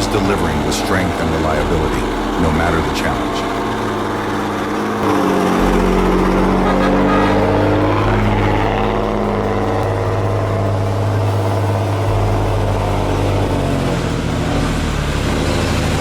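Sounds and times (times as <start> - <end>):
truck diesel engine pulling hard: 0.0 - 16.0.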